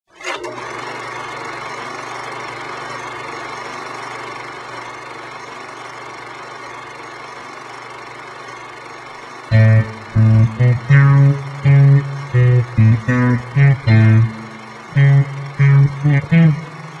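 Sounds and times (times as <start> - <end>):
machine hum with hiss: 2.1 - 17.0.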